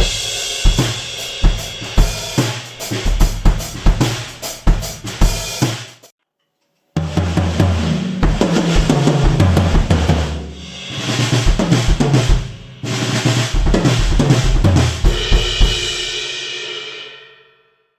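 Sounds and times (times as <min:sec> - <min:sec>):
drum kit fills: 0:00.0 - 0:06.1, 0:07.0 - 0:17.4.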